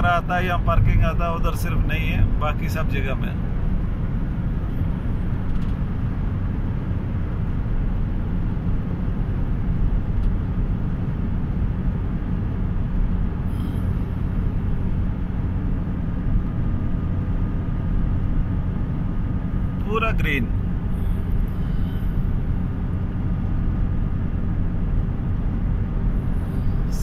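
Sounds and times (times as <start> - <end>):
car cabin road noise: 0.0 - 27.0.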